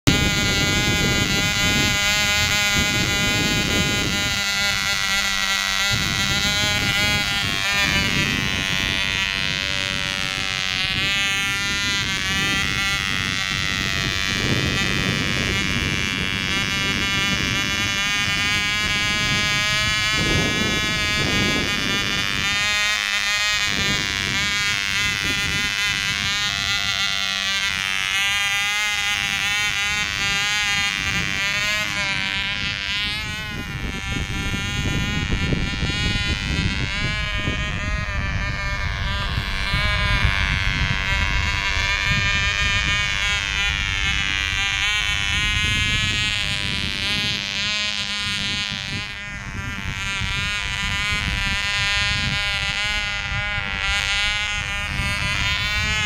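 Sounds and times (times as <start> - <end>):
model airplane engine buzzing: 0.0 - 56.0
wind rumbling on microphone: 0.0 - 56.0.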